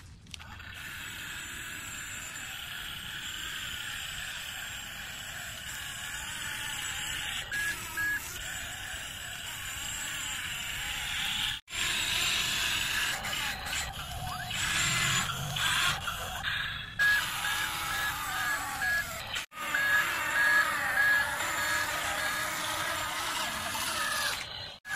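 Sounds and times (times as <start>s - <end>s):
toy electric motors whirring: 0.0s - 24.9s.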